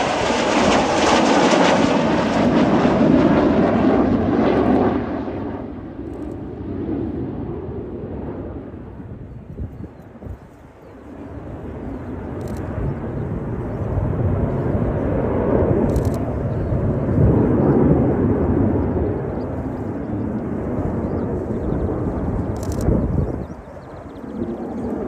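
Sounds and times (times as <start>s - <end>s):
jet engines passing overhead: 0.0s - 25.0s.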